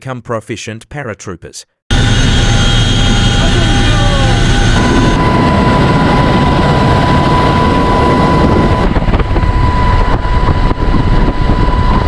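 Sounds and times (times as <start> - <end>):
helicopter rumble: 1.9 - 12.0
high whine: 1.9 - 12.0
wind buffeting microphone: 2.0 - 12.0.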